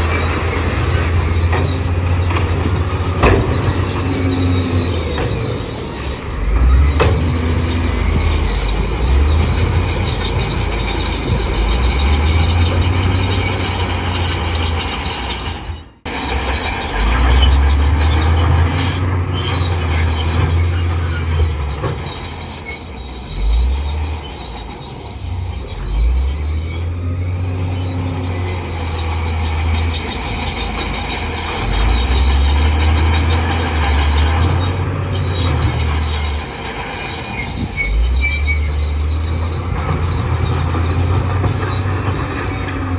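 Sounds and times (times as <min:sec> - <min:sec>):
bulldozer diesel rumble: 0:00.0 - 0:42.9
metallic squeal of steel tracks: 0:00.0 - 0:42.9.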